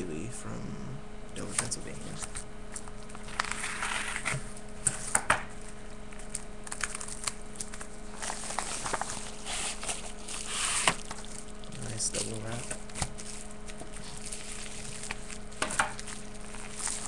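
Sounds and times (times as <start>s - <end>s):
package wrapping crinkling: 1.5s - 17.0s.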